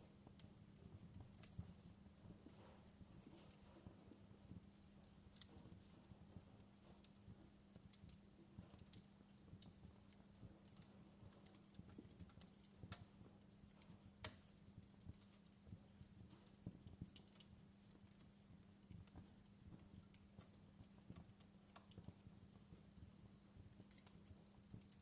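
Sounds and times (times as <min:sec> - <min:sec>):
low steady hum: 0:00.0 - 0:25.0
wood fire crackling: 0:00.0 - 0:25.0.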